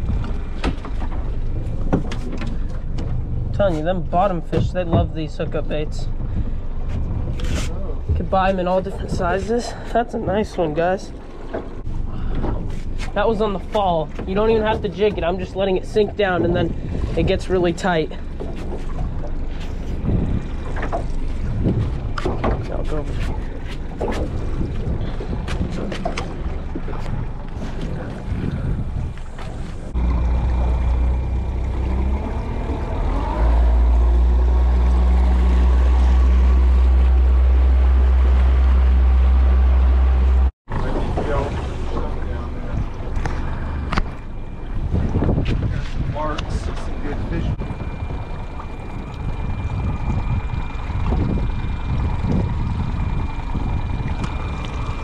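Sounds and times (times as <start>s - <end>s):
outboard motor droning: 0.0s - 55.0s
wind buffeting microphone: 0.0s - 55.0s.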